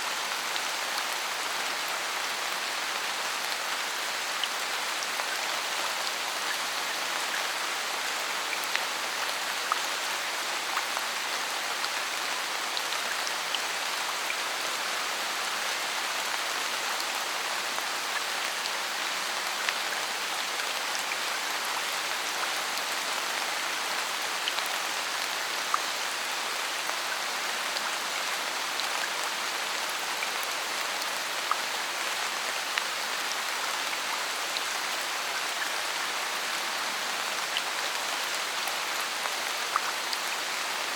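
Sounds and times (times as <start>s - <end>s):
steady rain in a forest: 0.0s - 40.9s.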